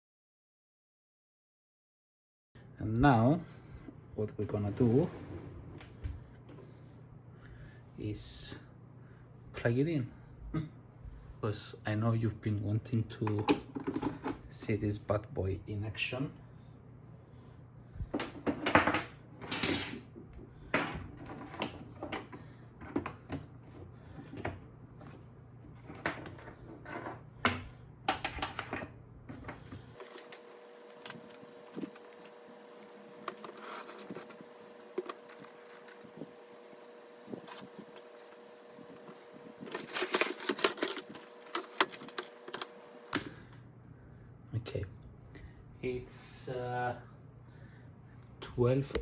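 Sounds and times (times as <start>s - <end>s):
faint steady whine: 2.6s - 49.0s.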